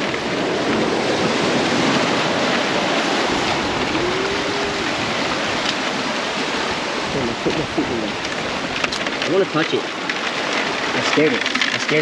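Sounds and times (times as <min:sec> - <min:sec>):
ocean surf washing over rocks: 0:00.0 - 0:12.0.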